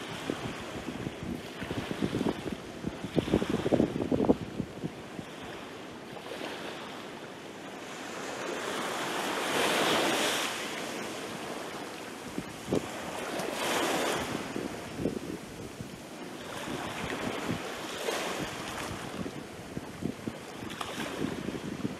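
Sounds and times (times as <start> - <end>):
waves washing over sand and pebbles: 0.0 - 21.9.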